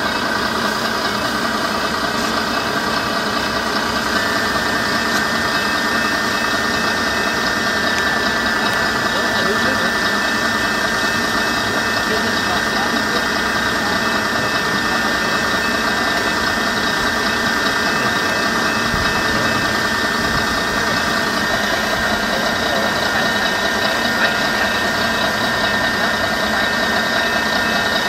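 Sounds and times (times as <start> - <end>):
steady mechanical running noise: 0.0 - 28.0.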